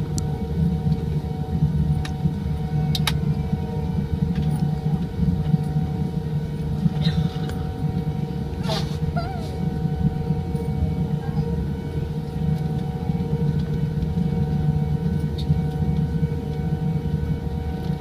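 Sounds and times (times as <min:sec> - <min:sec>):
airliner cabin engine rumble: 0:00.0 - 0:18.0
steady hum: 0:00.0 - 0:18.0.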